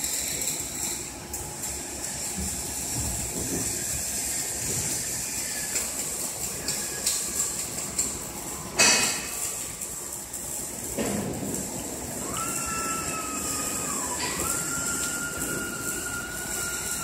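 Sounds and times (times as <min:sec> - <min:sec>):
high machine whine: 0:00.0 - 0:17.0.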